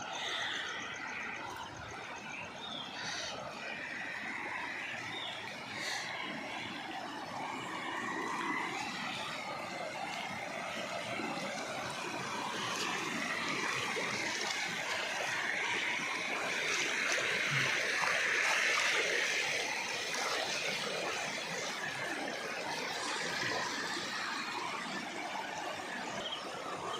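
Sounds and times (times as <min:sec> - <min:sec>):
floodwater rushing: 0:00.0 - 0:26.9.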